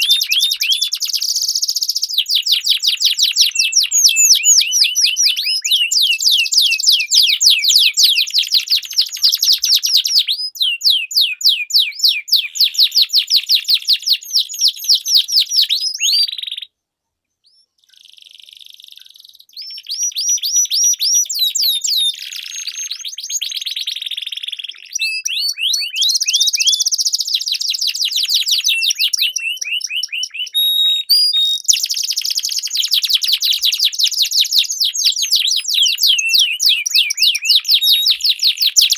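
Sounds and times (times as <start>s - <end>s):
canaries singing trills: 0.0s - 16.8s, 17.4s - 38.9s.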